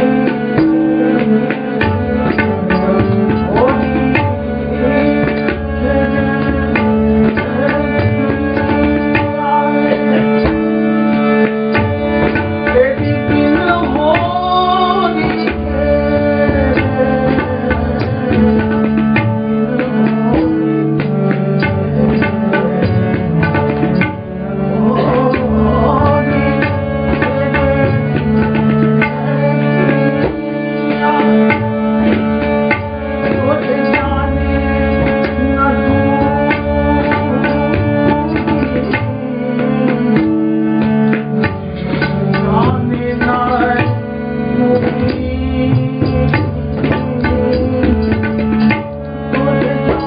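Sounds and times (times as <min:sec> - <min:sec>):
man singing: 0:00.0 - 0:11.1, 0:11.9 - 0:21.0, 0:24.4 - 0:41.3, 0:41.9 - 0:50.0
harmonium drone: 0:00.0 - 0:50.0
tabla rhythm: 0:00.0 - 0:50.0.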